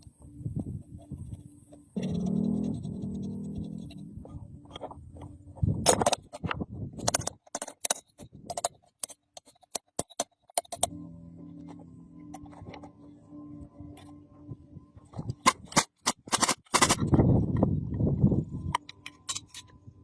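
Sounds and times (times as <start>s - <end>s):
low steady hum: 0.0s - 9.1s, 10.6s - 20.0s.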